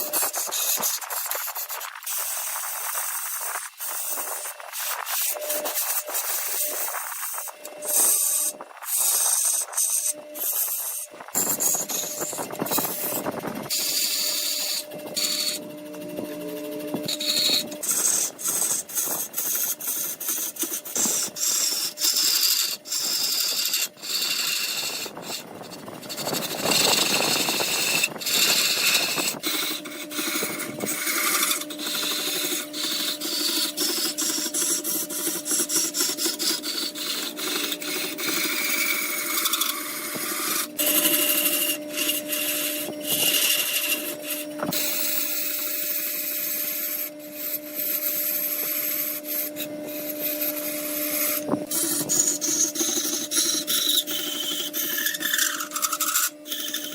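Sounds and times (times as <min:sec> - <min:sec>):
lathe motor hum: 0:00.0 - 0:56.9
turning tool scraping wood: 0:00.0 - 0:56.9.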